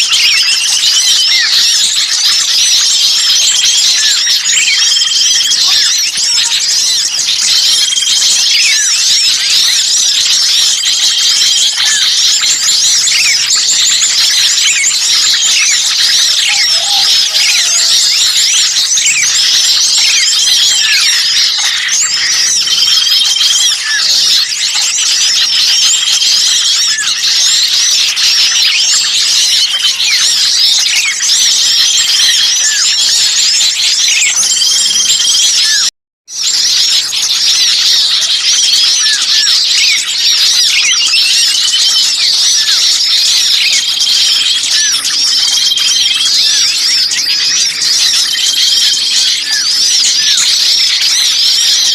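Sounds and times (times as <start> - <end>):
songbirds chirping: 0.0 - 35.9, 36.5 - 51.9.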